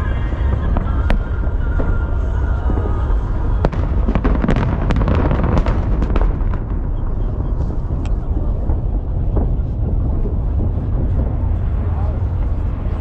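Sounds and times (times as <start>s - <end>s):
firework crackles: 0.0s - 13.0s
fireworks booming: 0.0s - 13.0s.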